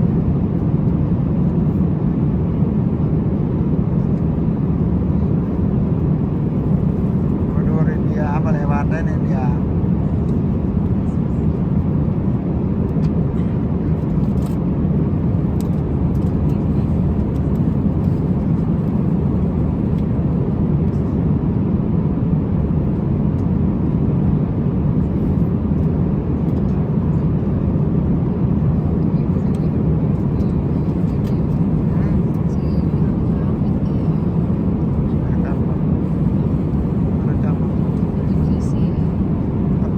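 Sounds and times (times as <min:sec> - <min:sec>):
airliner engine roar: 0:00.0 - 0:39.9.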